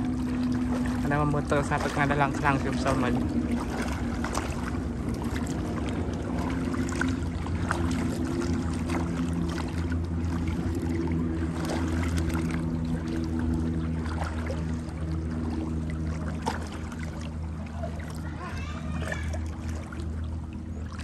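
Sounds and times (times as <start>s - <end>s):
water noise: 0.0s - 21.0s.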